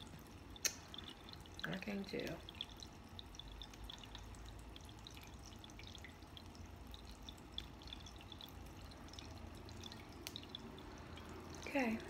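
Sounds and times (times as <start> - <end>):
water dripping: 0.0 - 12.0
water fountain trickling: 0.0 - 12.0.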